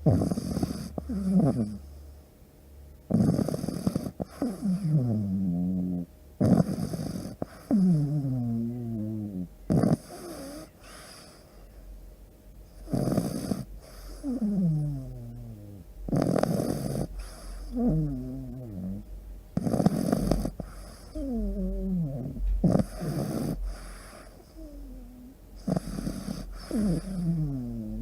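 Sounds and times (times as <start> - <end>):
dog snoring: 0.0 - 2.0, 3.1 - 11.6, 12.7 - 28.0.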